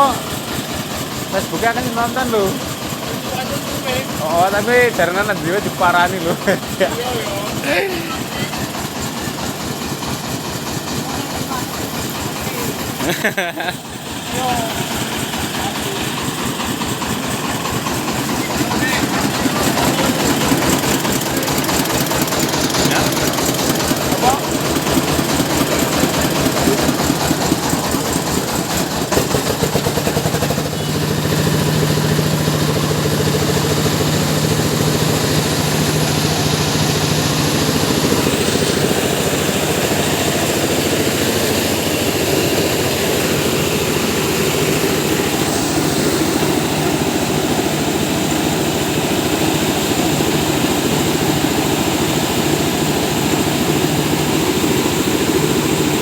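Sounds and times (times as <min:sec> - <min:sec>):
rice mill machinery running: 0:00.0 - 0:56.0.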